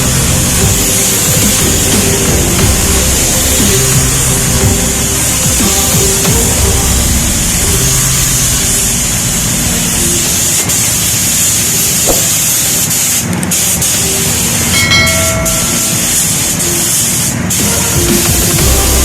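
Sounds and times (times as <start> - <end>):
compressed air hissing: 0.0 - 19.0.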